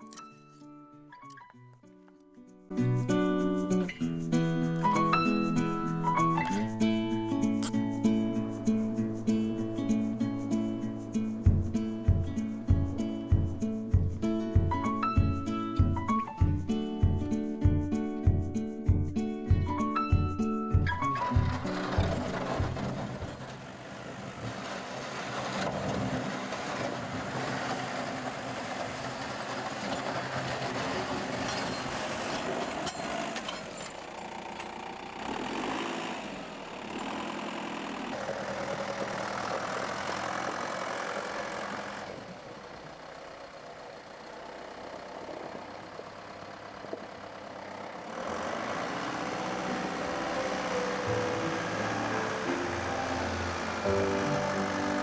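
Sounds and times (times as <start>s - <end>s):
vehicle engine running: 2.8s - 55.0s.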